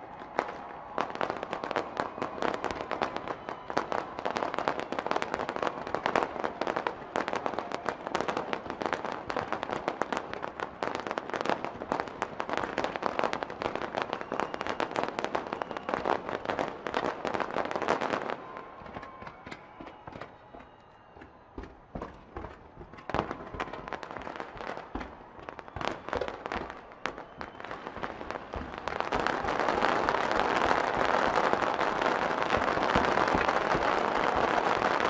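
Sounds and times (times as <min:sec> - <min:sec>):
fireworks crackling bangs: 0:00.0 - 0:35.0.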